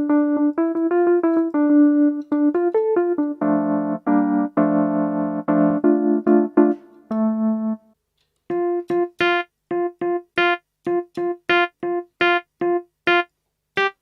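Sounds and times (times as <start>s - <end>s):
electric piano notes and chords: 0.0s - 14.0s.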